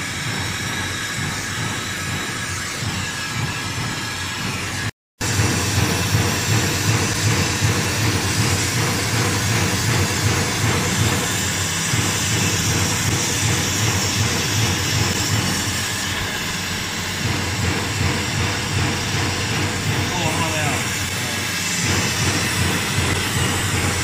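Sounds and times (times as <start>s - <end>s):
brazing torch flame hissing: 0.0s - 24.0s.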